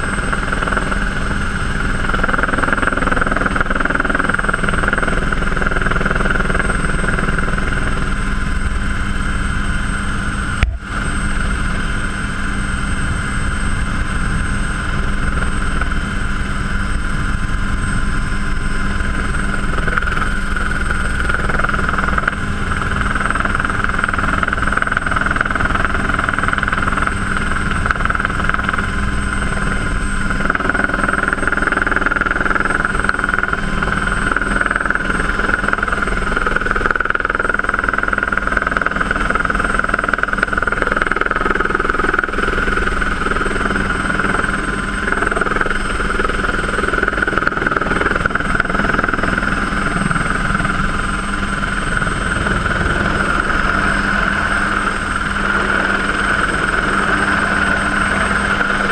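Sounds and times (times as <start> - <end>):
helicopter turbine whine and rotor: 0.0 - 58.9.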